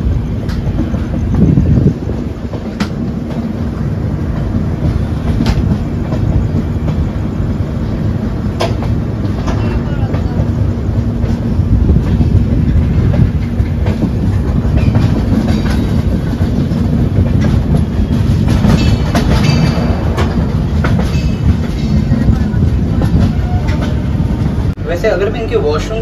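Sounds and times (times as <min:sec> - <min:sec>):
train wheels rumbling on track: 0:00.0 - 0:26.0
wheels clacking over rail joints: 0:00.0 - 0:26.0.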